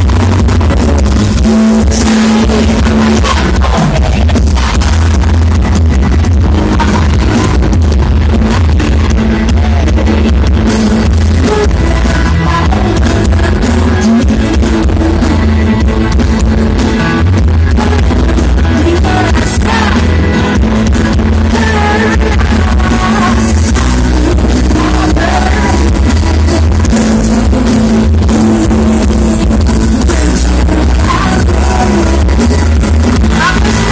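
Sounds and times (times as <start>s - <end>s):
person singing: 0.0s - 5.3s, 6.6s - 7.8s, 8.6s - 16.0s, 17.5s - 20.5s, 21.3s - 33.9s
loud music with heavy bass: 0.0s - 33.9s.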